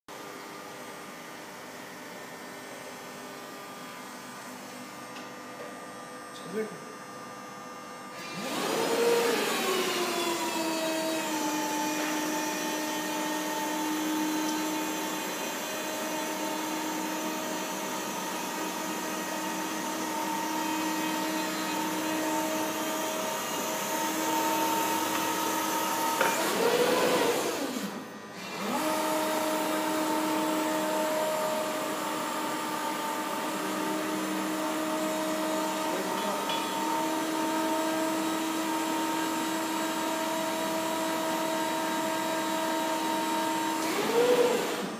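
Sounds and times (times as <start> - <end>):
hydraulic pump whining: 8.1 - 44.9.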